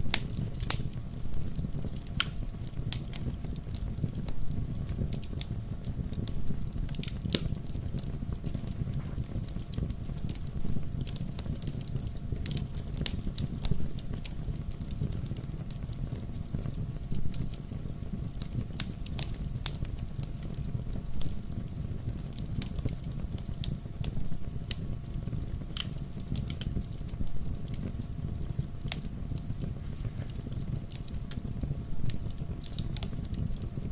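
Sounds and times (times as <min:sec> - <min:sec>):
fire crackling and popping: 0:00.0 - 0:33.9
low rumble of flames: 0:00.0 - 0:33.9.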